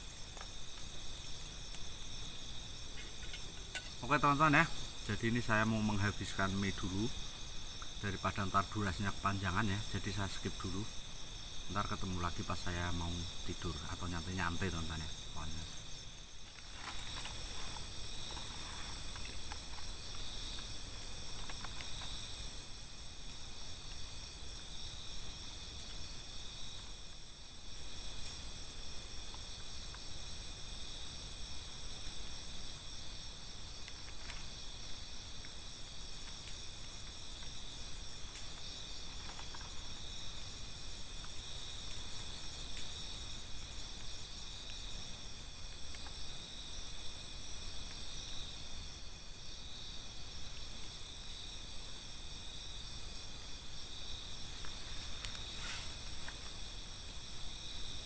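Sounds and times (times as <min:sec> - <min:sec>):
night insects trilling: 0:00.0 - 0:58.0.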